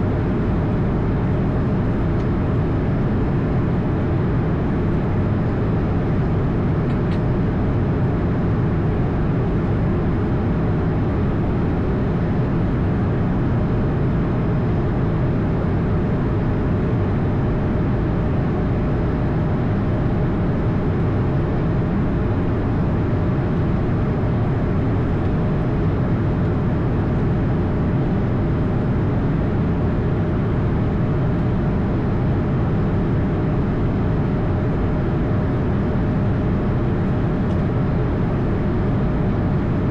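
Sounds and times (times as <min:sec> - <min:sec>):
aircraft engine and airflow rumble: 0:00.0 - 0:39.9.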